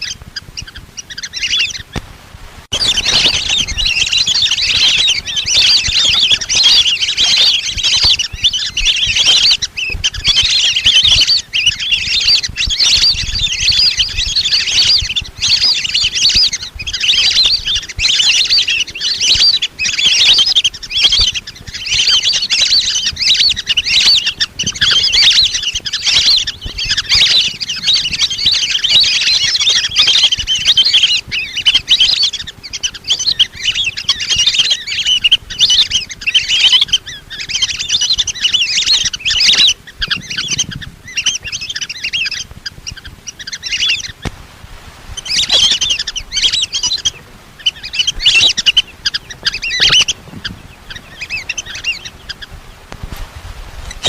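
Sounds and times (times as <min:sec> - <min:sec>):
ducks whistling chatter: 0:00.0 - 0:02.0, 0:02.7 - 0:44.4, 0:45.1 - 0:52.9.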